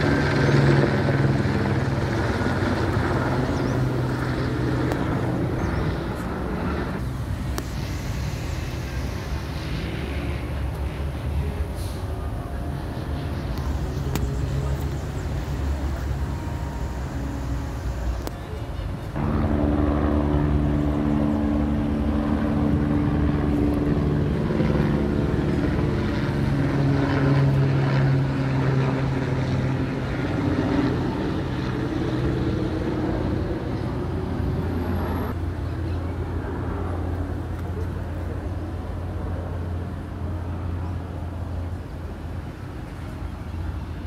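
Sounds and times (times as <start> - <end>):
helicopter rotor and engine drone: 0.0 - 44.0.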